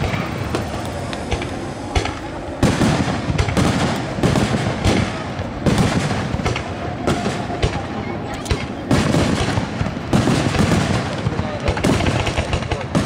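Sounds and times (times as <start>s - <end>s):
fireworks booming: 0.0s - 13.0s
sharp firework cracks: 0.0s - 13.0s.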